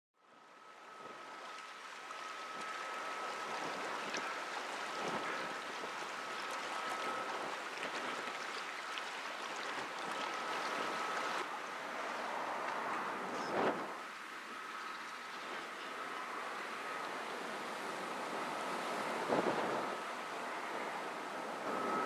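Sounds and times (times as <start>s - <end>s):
faint high whine: 0.2s - 22.0s
river hiss: 0.3s - 22.0s.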